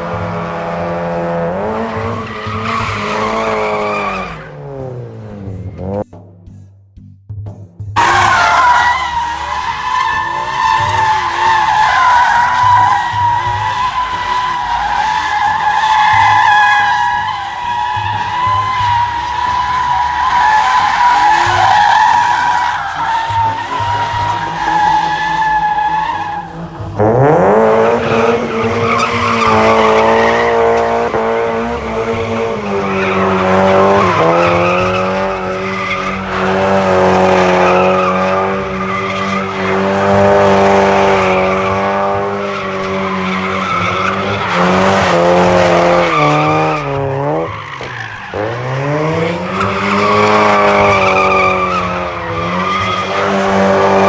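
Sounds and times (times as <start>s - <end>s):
car engine revving: 0.0s - 6.6s, 7.9s - 54.0s
tyres squealing: 0.6s - 4.7s, 8.0s - 54.0s.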